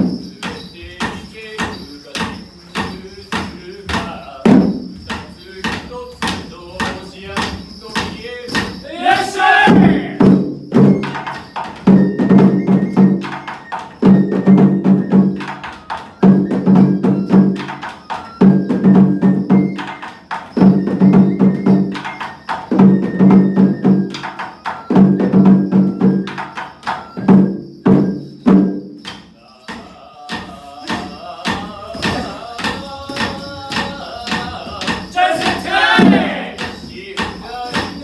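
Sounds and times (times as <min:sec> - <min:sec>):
festival drum beats: 0:00.0 - 0:38.0
wood block clacks: 0:00.0 - 0:38.0.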